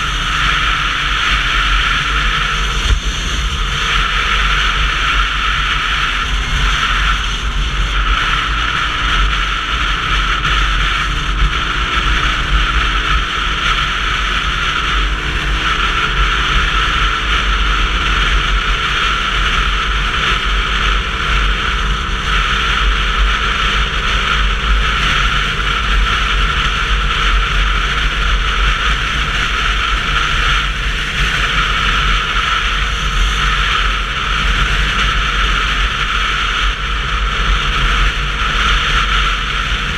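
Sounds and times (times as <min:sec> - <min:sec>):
motorcycle road noise: 0:00.0 - 0:39.9
wind rush: 0:00.0 - 0:39.9.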